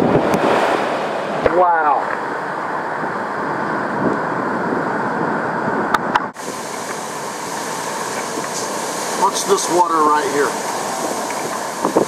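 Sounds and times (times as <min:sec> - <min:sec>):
surf rushing over ground: 0:00.0 - 0:12.0
wind noise: 0:00.0 - 0:12.0.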